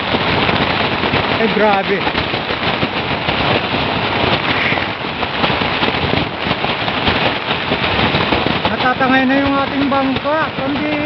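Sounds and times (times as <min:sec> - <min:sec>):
plastic sheet flapping and crackling: 0:00.0 - 0:11.0
wind rushing: 0:00.0 - 0:11.0.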